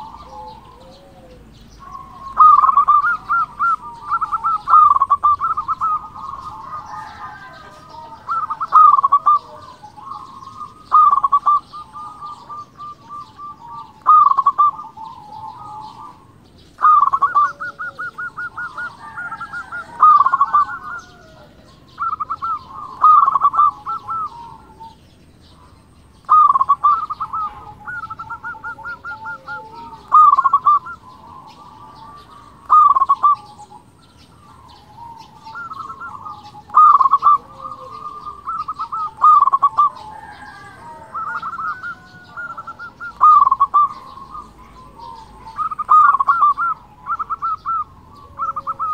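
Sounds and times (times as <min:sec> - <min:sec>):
dove rapid staccato cooing: 0:00.0 - 0:48.9.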